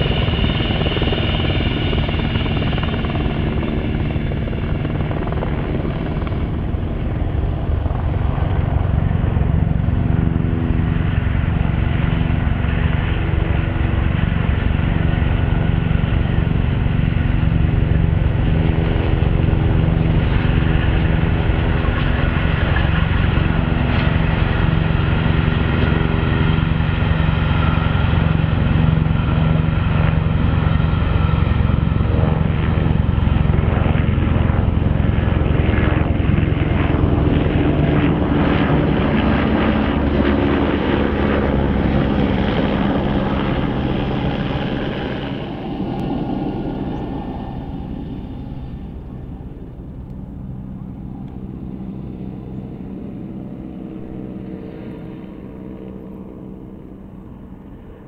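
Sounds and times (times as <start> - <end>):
helicopter rotors and engines: 0.0 - 58.0.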